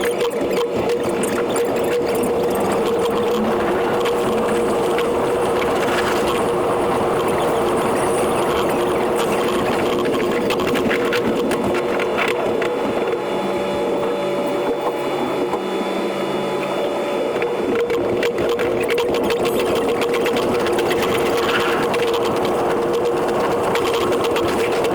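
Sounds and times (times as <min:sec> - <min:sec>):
electric train hum: 0:00.0 - 0:24.9.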